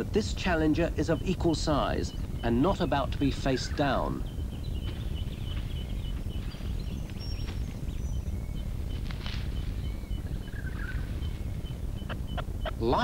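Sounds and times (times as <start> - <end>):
low rumble of wind: 0.0 - 13.0.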